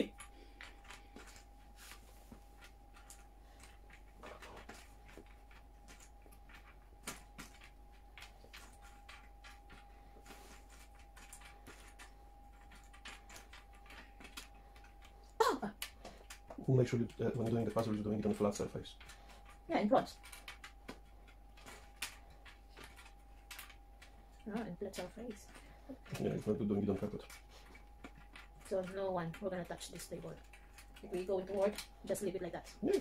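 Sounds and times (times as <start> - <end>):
faint steady hum: 0.0 - 33.0
puzzle pieces clicking: 2.6 - 33.0.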